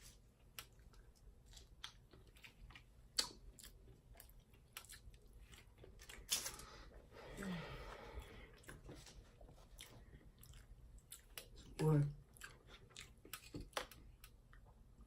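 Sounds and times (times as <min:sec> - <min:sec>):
wet chewing and mouth smacks: 0:00.0 - 0:06.8, 0:08.2 - 0:14.8.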